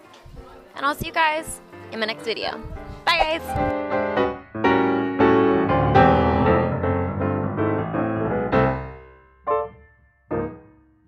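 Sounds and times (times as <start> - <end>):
piano notes and chords: 0.0 - 11.0.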